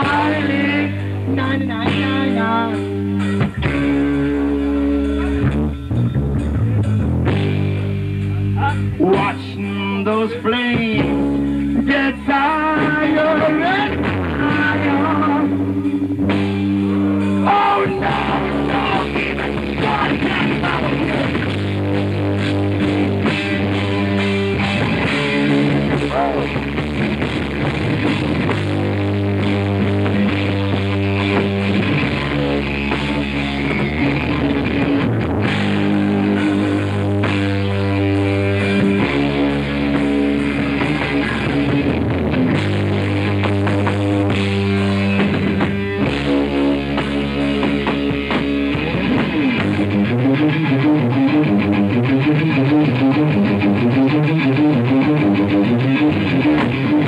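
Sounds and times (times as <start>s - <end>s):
distorted electric guitar: 0.0s - 57.0s
drum kit: 0.0s - 57.0s.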